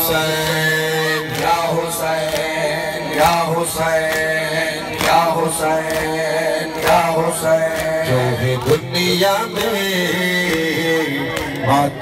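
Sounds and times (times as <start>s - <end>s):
men chanting: 0.0s - 12.0s.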